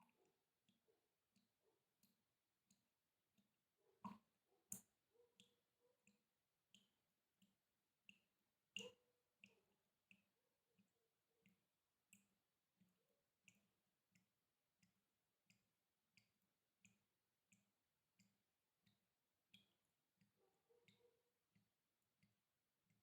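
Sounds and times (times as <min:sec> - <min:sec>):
water dripping: 0:00.0 - 0:23.0.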